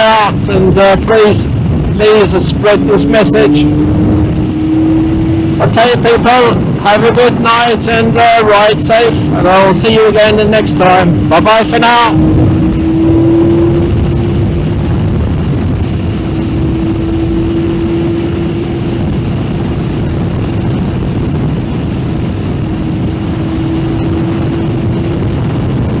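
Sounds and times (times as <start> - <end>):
motorcycle engine cruising: 0.0 - 26.0
road and wind noise: 0.0 - 26.0.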